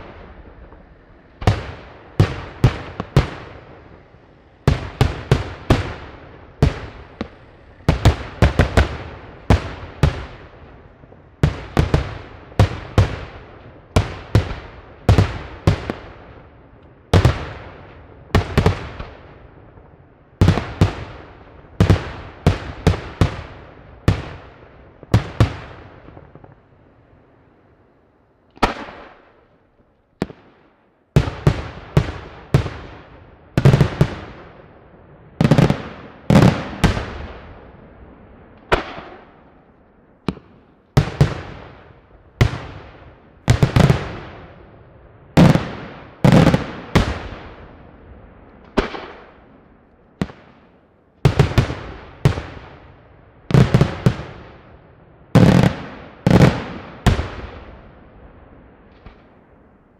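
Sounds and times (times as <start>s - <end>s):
fireworks bangs: 0.0s - 27.7s, 28.5s - 59.8s.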